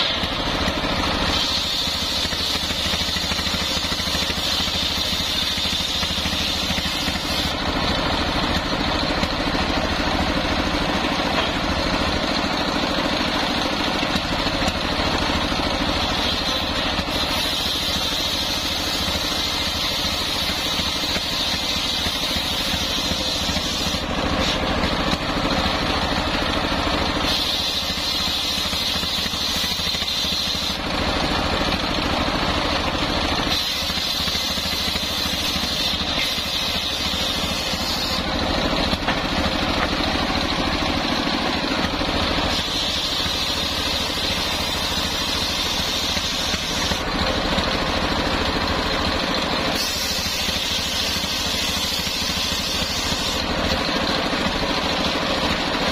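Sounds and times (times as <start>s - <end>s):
circular saw cutting wood: 0.0s - 55.9s
diesel engine running: 0.0s - 55.9s.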